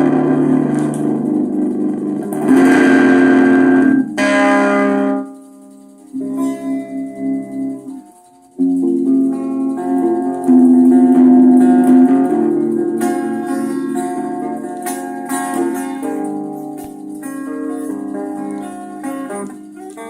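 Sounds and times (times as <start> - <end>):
plucked string instrument music: 0.0 - 20.0.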